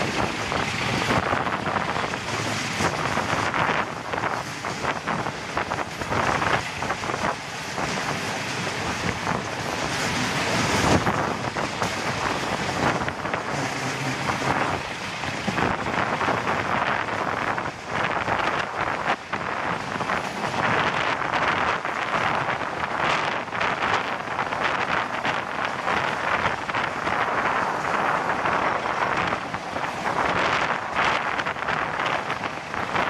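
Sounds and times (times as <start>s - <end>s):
passenger train running: 0.0s - 33.0s
wind buffeting microphone: 0.0s - 33.0s.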